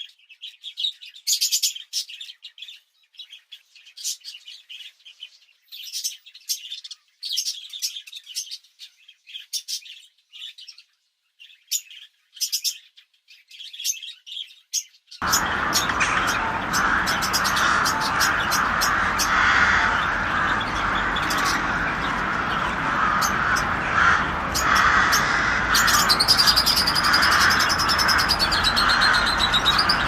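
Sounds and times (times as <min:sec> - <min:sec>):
dense bird chorus: 0:00.0 - 0:30.0
small birds chirping: 0:00.0 - 0:30.0.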